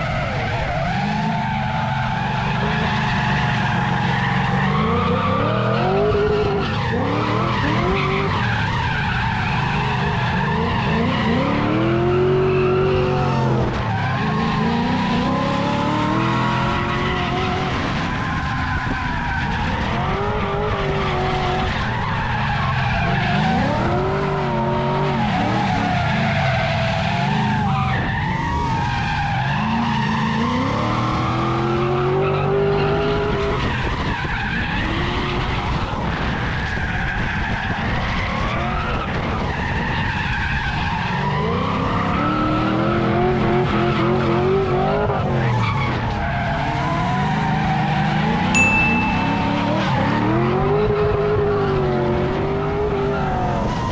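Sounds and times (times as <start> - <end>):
car engine revving: 0.0 - 36.4, 41.3 - 53.9.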